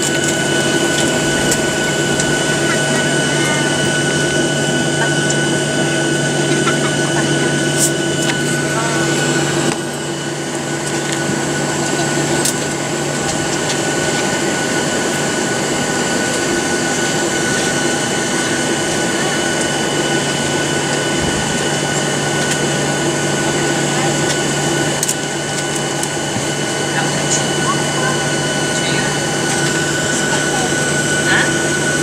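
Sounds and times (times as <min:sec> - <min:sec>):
cabin air system rushing: 0:00.0 - 0:32.0
jet engines idling: 0:00.0 - 0:32.0.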